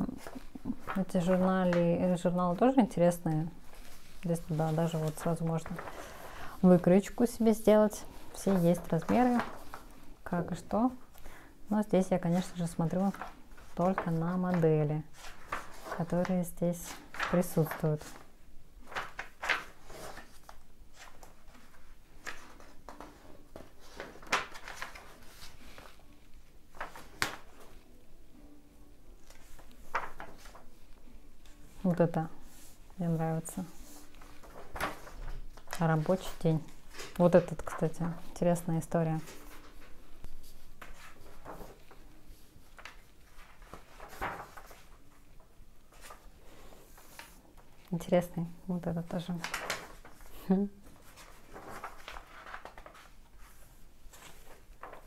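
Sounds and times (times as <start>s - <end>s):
magazine pages turning: 0.0s - 6.5s, 7.1s - 10.2s, 12.2s - 27.9s, 29.2s - 31.8s, 32.4s - 48.0s, 49.2s - 55.0s.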